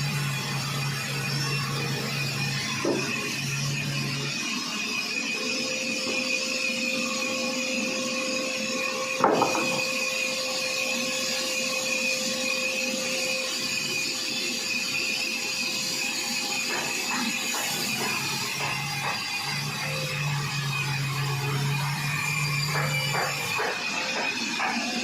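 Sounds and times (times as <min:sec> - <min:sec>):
sawmill saw whining: 0:00.0 - 0:25.0.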